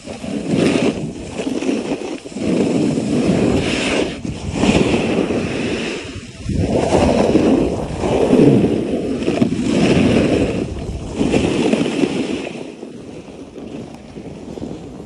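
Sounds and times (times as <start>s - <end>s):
snowboard scraping over packed snow: 0.0s - 15.0s
wind buffeting microphone: 0.0s - 15.0s.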